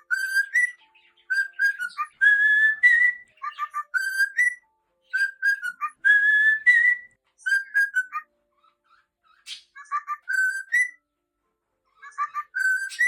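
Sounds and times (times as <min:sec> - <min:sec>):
cockatiel whistling: 0:00.0 - 0:08.3, 0:08.9 - 0:11.0, 0:12.0 - 0:13.0.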